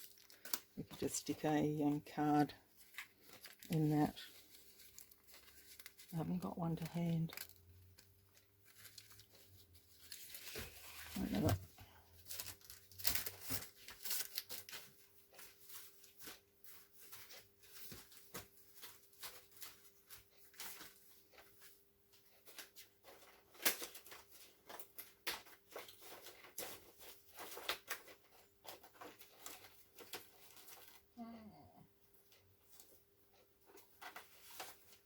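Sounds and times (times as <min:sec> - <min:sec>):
paper and card rustling: 0:00.0 - 0:31.1, 0:32.2 - 0:35.0.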